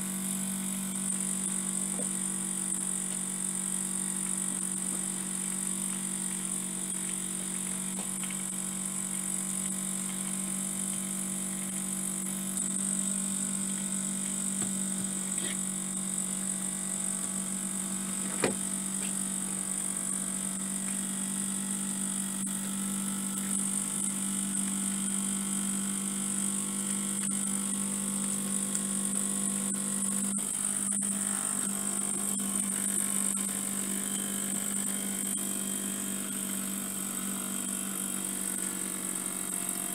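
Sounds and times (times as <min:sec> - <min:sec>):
model steam engines hum: 0:00.0 - 0:39.9.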